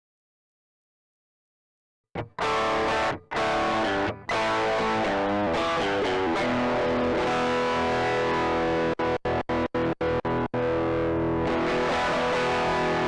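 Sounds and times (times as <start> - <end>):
distorted electric guitar riff: 2.2 - 13.0.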